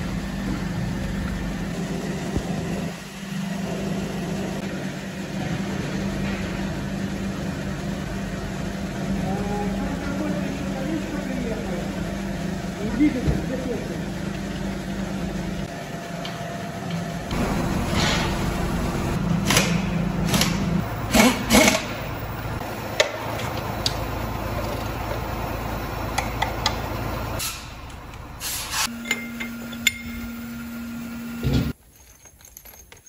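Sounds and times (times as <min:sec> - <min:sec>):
machine hum: 0:00.0 - 0:31.8.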